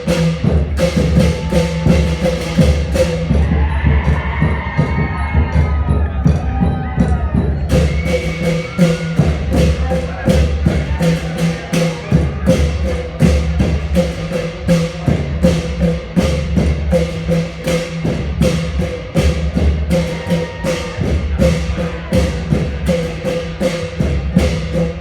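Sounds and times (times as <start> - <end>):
cymbals struck on a beat: 0.0 - 25.0
long drums playing: 0.0 - 25.0.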